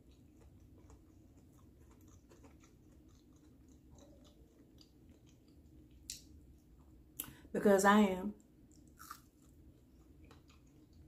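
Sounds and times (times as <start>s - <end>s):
chewing crunchy food: 0.0s - 7.2s, 8.4s - 11.0s.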